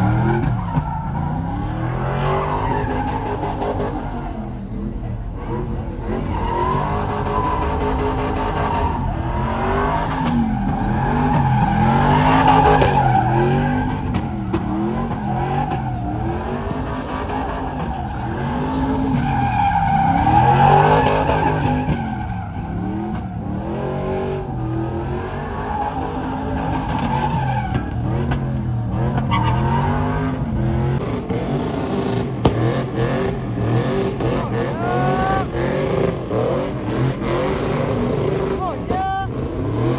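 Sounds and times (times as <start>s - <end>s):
tires squealing on pavement: 0.0s - 39.9s
truck engine revving: 0.0s - 39.9s.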